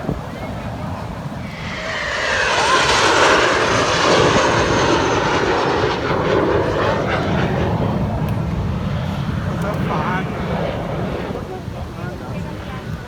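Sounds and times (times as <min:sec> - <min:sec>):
aircraft flying past: 0:01.0 - 0:12.8.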